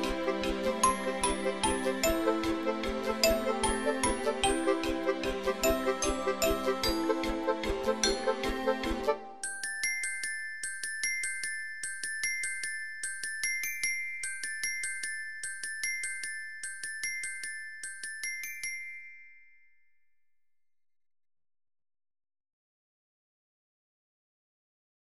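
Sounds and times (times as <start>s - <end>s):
bell-like melody: 0.0s - 20.1s.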